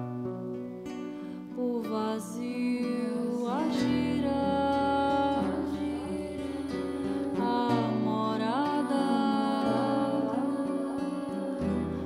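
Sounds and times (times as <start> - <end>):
guitar: 0.0 - 12.0
person singing gliding notes: 1.6 - 12.0.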